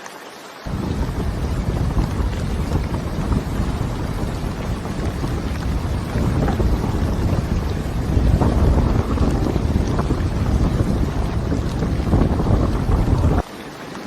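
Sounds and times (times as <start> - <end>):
heavy rain hiss: 0.6 - 13.5
low rumble: 0.7 - 13.4.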